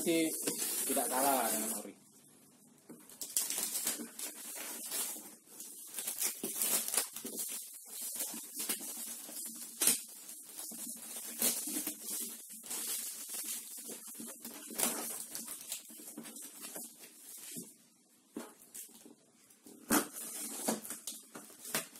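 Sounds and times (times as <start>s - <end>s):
plastic wrap crinkling and tearing: 0.0s - 1.9s, 3.0s - 17.6s, 19.8s - 21.9s.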